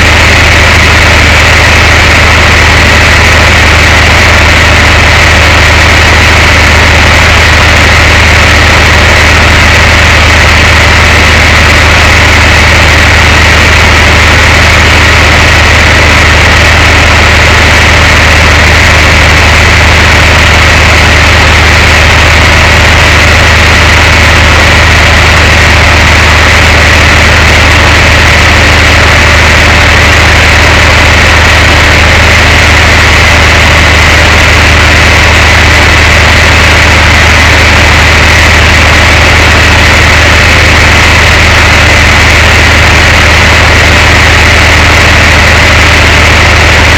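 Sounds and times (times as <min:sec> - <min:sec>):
truck engine droning: 0:00.0 - 0:46.9.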